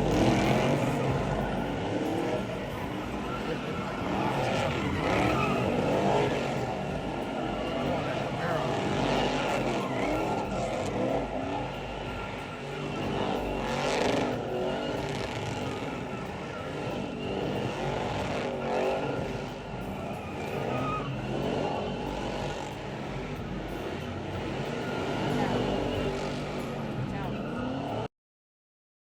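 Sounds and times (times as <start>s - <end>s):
tyre squeal: 0.0s - 28.0s
car engines revving: 0.0s - 28.1s.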